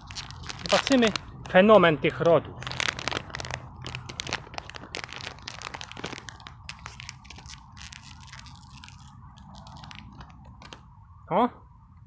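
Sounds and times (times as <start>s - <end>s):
plastic wrapper crinkling and tearing: 0.0s - 10.9s.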